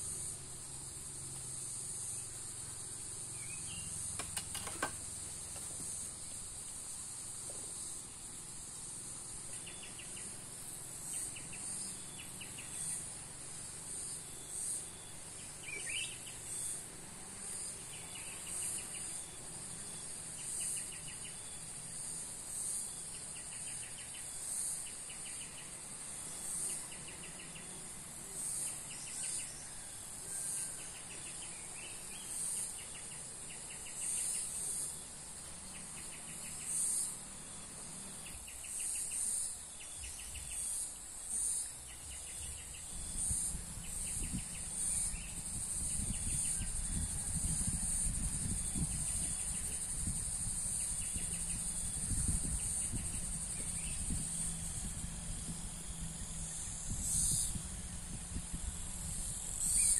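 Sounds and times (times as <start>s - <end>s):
insects buzzing: 0.0s - 59.9s
lower insect trill: 0.0s - 59.9s.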